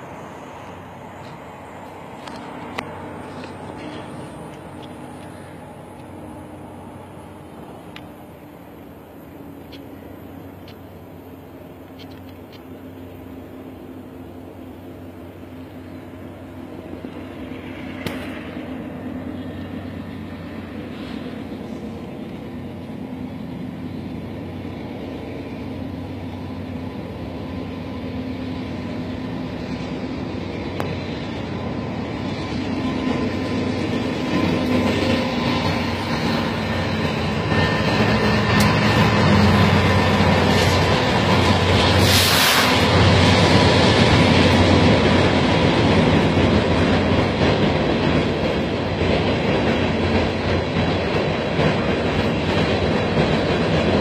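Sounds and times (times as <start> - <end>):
diesel locomotive engines humming: 0.0 - 54.0.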